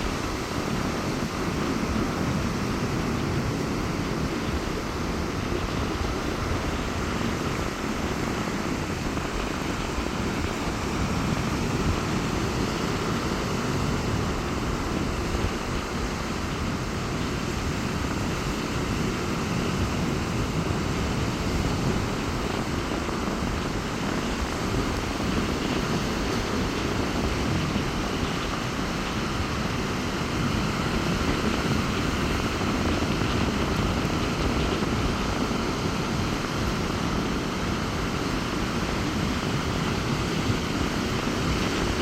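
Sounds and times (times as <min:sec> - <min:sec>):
waves washing onto beach: 0:00.0 - 0:42.0
wind rumbling on microphone: 0:00.0 - 0:42.0.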